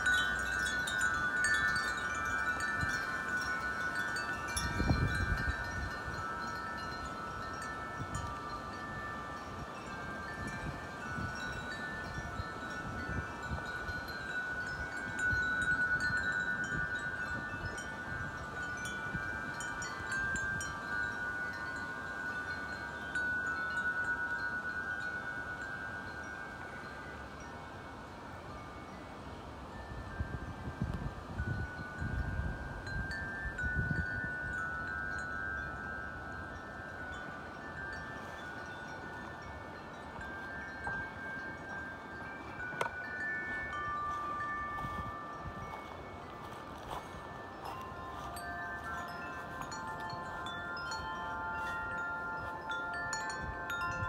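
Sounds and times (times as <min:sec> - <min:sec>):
wind chimes ringing: 0:00.0 - 0:54.0
wind rumbling on microphone: 0:00.0 - 0:54.0.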